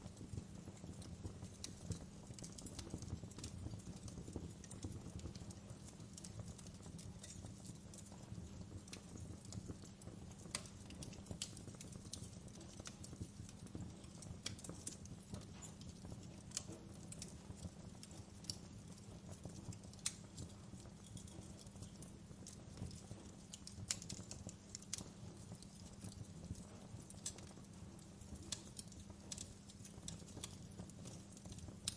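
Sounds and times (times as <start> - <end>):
burning logs rumbling: 0.0 - 31.9
wood fire crackling: 0.0 - 31.9.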